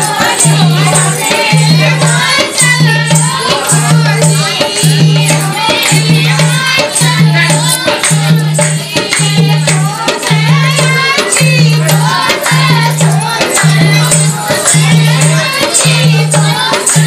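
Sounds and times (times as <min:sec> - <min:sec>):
jingling rattle beat: 0:00.0 - 0:17.0.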